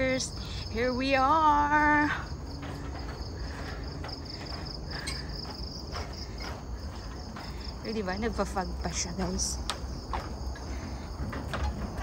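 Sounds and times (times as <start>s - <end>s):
high-pitched insect trill: 0.0s - 10.7s.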